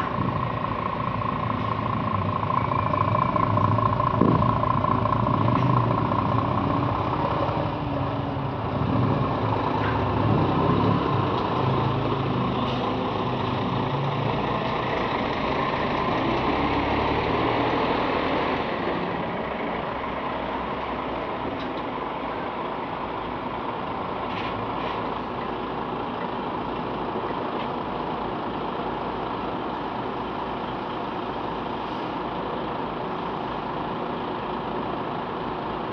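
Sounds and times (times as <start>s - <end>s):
heavy trucks driving past: 0.0s - 35.9s.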